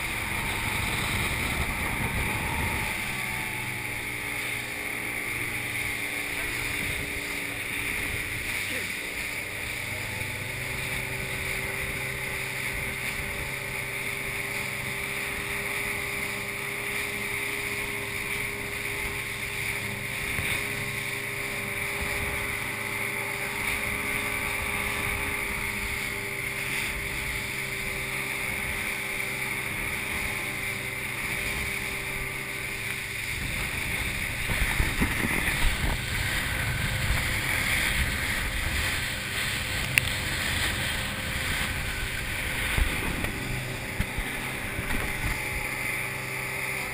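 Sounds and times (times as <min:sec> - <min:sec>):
motorboat engine drone: 0:00.0 - 0:46.9
wind and water rushing: 0:00.0 - 0:46.9.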